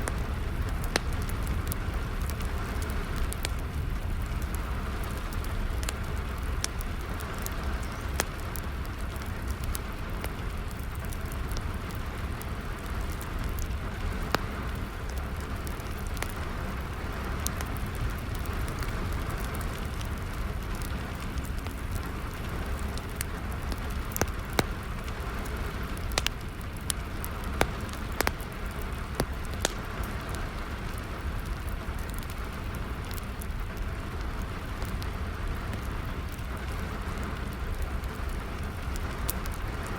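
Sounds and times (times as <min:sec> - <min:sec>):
steady rainfall: 0:00.0 - 0:39.9
wood fire crackling: 0:00.0 - 0:39.9.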